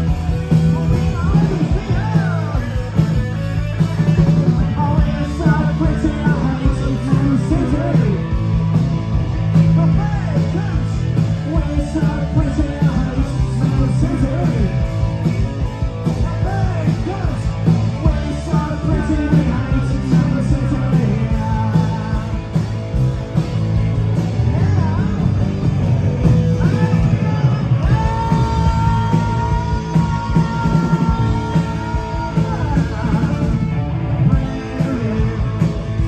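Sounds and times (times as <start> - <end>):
punk rock band playing live: 0.0 - 36.0
man singing into a microphone: 0.6 - 3.1, 4.6 - 8.4, 9.6 - 14.9, 16.2 - 22.6, 24.4 - 36.0.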